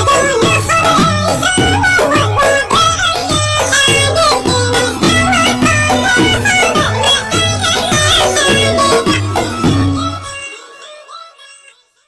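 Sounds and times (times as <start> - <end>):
low beat: 0.0 - 10.0
chanting voices: 0.0 - 12.0.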